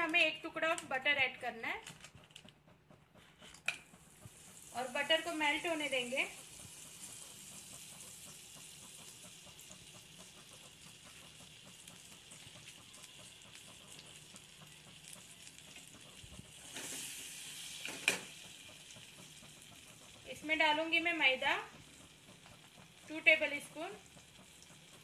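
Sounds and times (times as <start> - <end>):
butter sizzling in saucepan: 3.8 - 25.0.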